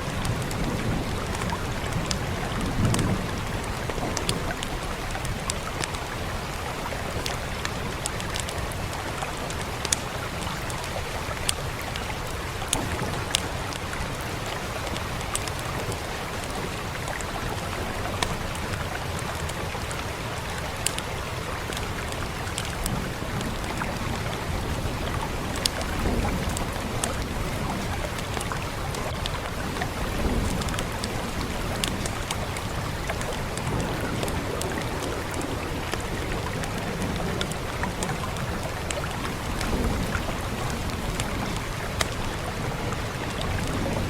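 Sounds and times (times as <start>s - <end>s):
wood fire crackling: 0.0s - 43.9s
steady rain hiss: 0.0s - 44.0s.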